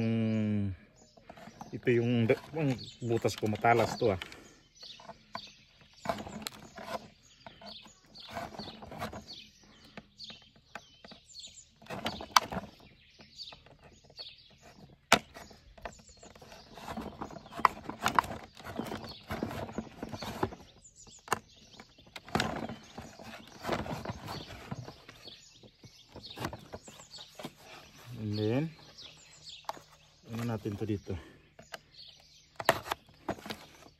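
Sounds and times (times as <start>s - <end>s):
knife scraping hard plastic: 1.2s - 12.8s, 13.5s - 28.1s, 32.6s - 33.9s.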